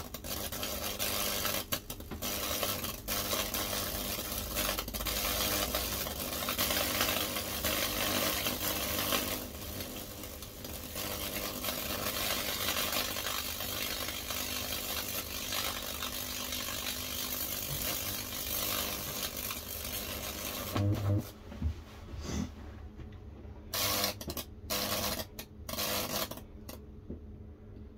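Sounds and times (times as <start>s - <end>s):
electric buzz: 0.0s - 21.4s, 23.7s - 26.8s
wood crackling and sizzling: 0.0s - 21.4s, 23.7s - 26.8s.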